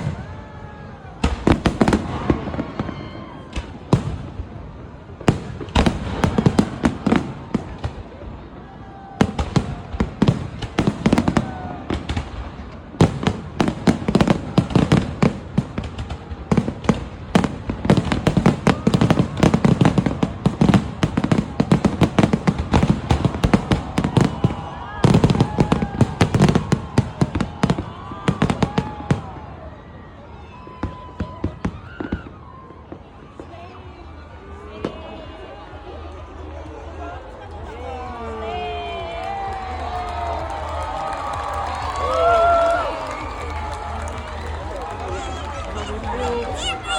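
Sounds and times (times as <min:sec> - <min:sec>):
fireworks banging and crackling: 0:00.0 - 0:35.4, 0:38.4 - 0:46.9.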